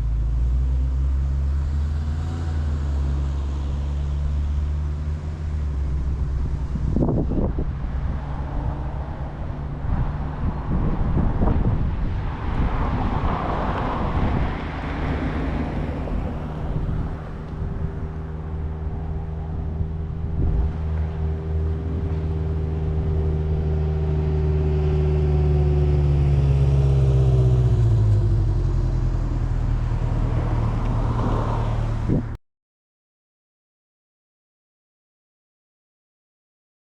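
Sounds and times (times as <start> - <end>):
car driving past: 0.0 - 32.3.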